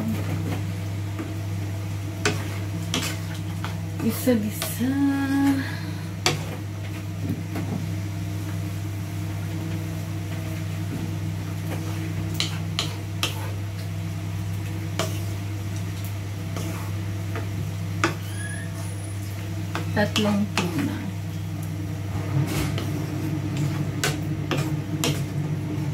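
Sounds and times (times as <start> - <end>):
kitchen appliance humming: 0.0 - 25.9.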